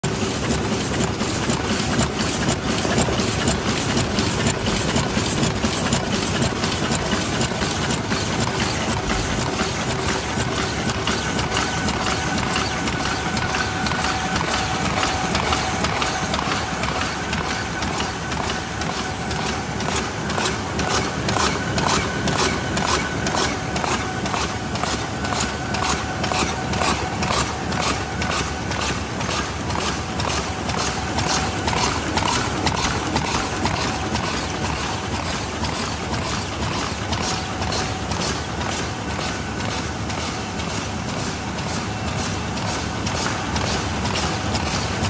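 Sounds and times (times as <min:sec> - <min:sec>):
machine running noise: 0:00.0 - 0:45.0
machine clattering clicks: 0:00.1 - 0:45.0.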